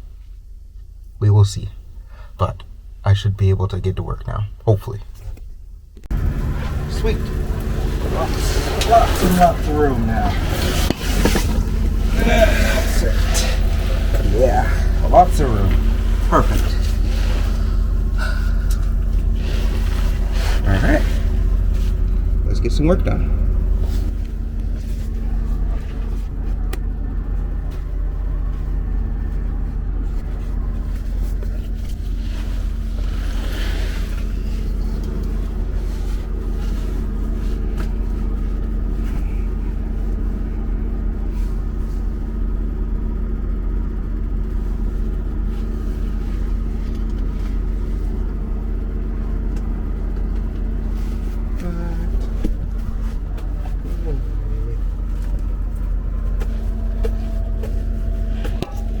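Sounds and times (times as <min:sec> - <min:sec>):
diesel truck engine idling: 0:06.1 - 0:59.0.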